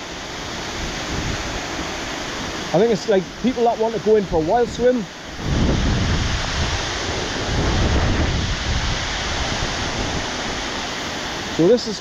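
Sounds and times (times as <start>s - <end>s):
waterfall rushing: 0.0s - 12.0s
wind buffeting microphone: 0.2s - 11.6s.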